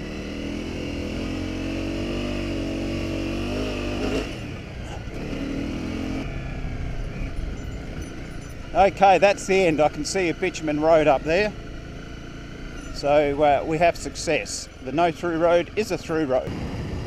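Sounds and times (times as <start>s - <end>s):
motorcycle engine pulling: 0.0s - 16.5s.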